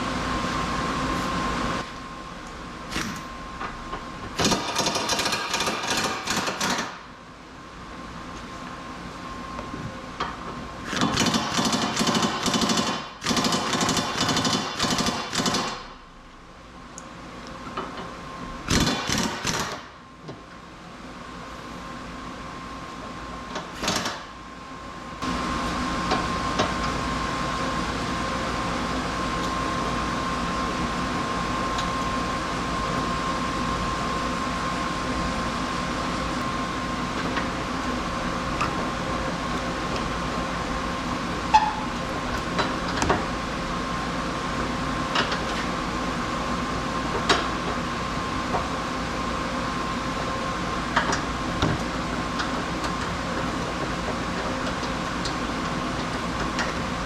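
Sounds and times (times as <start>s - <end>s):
machine hum with high tone: 0.0s - 57.0s.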